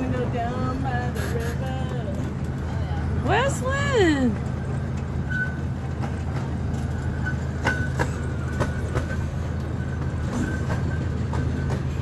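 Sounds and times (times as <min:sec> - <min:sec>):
miniature train drone: 0:00.0 - 0:12.0
wheels clicking over rail joints: 0:00.0 - 0:12.0.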